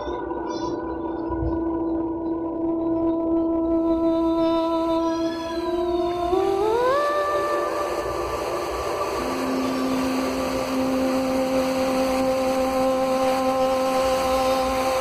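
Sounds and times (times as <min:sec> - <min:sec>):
background music held tones: 0:00.0 - 0:15.0.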